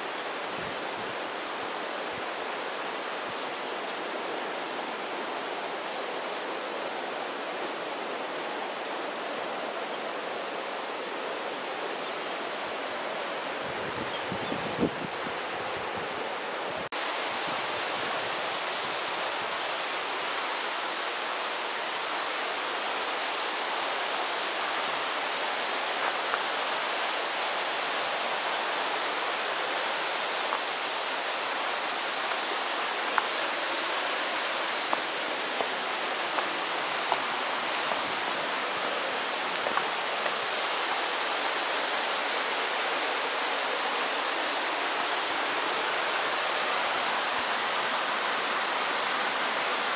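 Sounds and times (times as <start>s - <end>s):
flowing water rushing: 0.0s - 49.9s.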